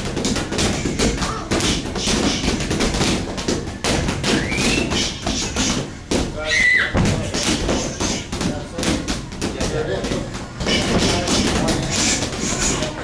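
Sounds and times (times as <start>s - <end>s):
boxing gloves striking: 0.0s - 13.0s.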